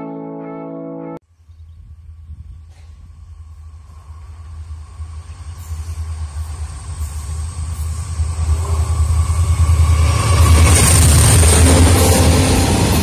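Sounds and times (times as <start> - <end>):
diesel locomotive engine rumble: 1.6 - 13.0.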